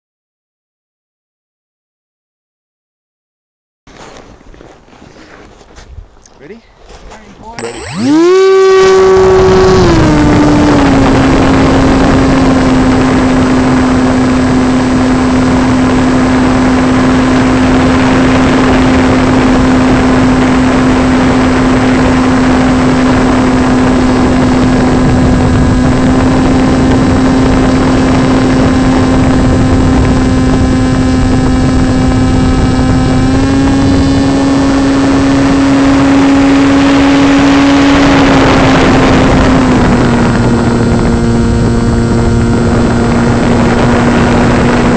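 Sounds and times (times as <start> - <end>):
electric motor and propeller: 7.4 - 44.9
wind rush on microphone: 7.5 - 44.9.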